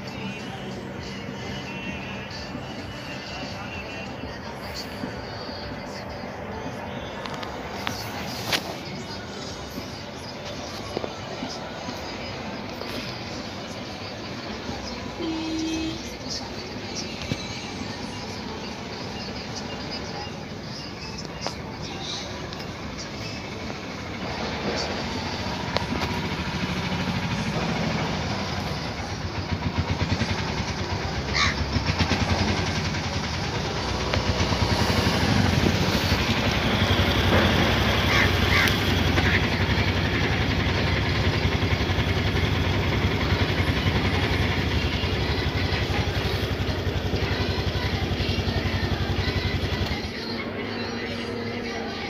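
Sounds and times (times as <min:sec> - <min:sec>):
motorcycle engine idling: 0:00.0 - 0:52.0
road noise: 0:00.0 - 0:52.0.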